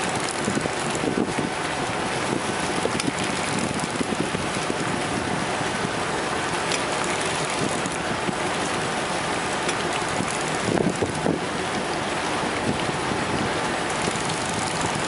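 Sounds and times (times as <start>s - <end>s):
boat engine running: 0.0s - 15.0s
wind on microphone: 0.0s - 15.0s.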